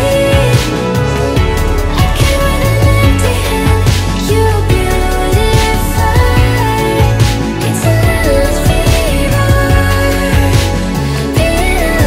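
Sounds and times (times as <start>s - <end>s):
background music with bass and beat: 0.0s - 12.0s.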